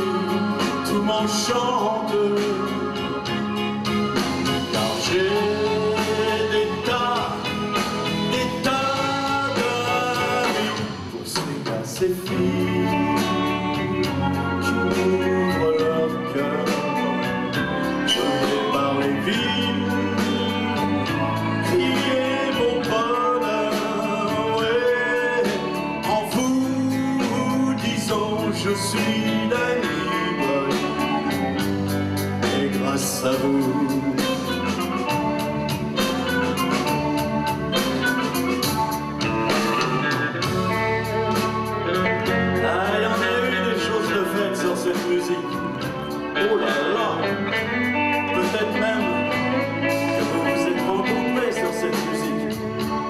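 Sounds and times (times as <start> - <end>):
live rock band playing: 0.0 - 53.0
man singing: 0.0 - 53.0.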